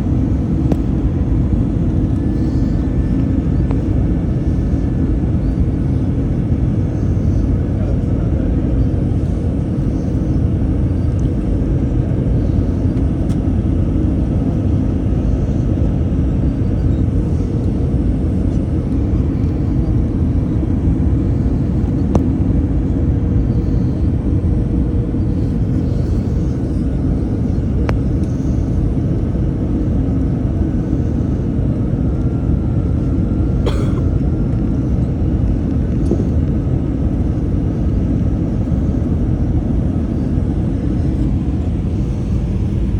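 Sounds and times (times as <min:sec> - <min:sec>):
engine and airflow rumble: 0:00.0 - 0:42.9.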